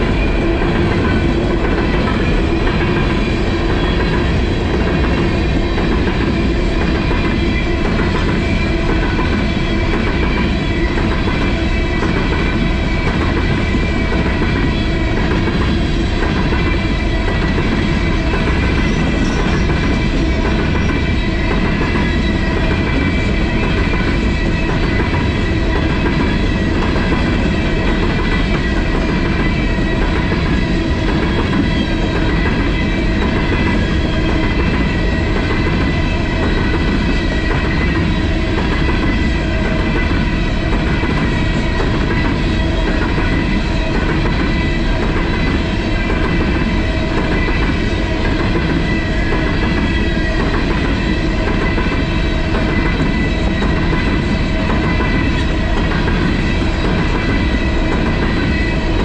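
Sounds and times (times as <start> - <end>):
faint clickety-clack: 0.0 - 59.0
steel wheels rumbling on rail: 0.0 - 59.0.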